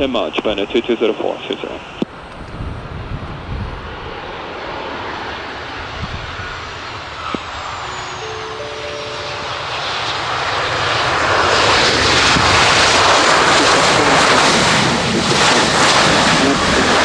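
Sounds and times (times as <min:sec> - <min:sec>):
jet airliner roaring past: 0:00.0 - 0:17.0.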